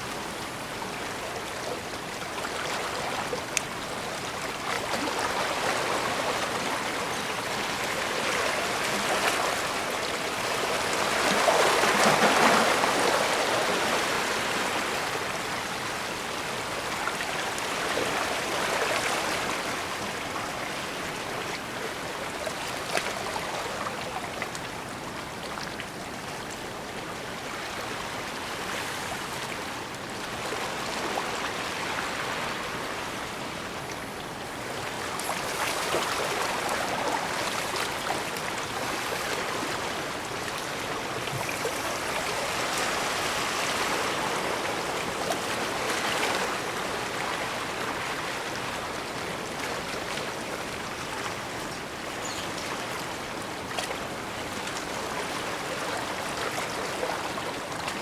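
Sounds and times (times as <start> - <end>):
small waves washing on shore: 0.0 - 58.0.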